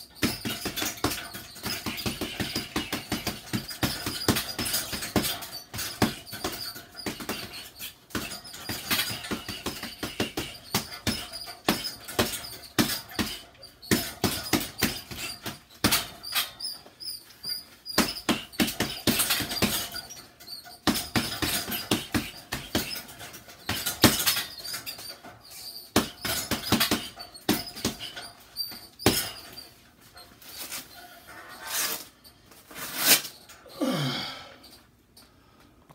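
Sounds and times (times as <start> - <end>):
heavy bag stand squeaking: 0.0 - 34.0.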